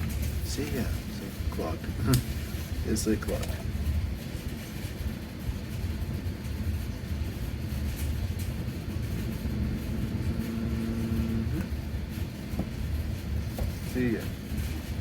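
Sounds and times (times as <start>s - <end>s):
machine low rumble: 0.0s - 15.0s.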